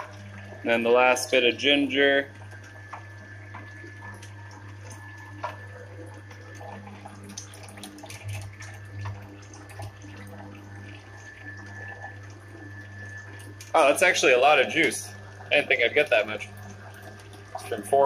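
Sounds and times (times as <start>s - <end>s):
juicer motor hum: 0.0s - 18.0s.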